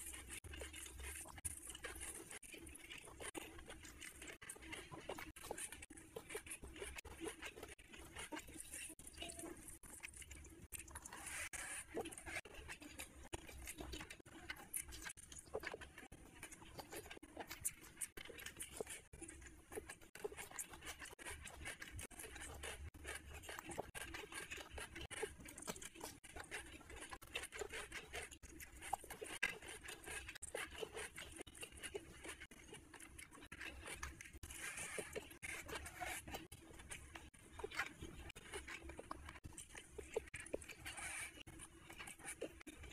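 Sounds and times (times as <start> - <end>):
fingers working rice on plate: 0.0 - 42.9
person chewing and eating: 0.0 - 42.9.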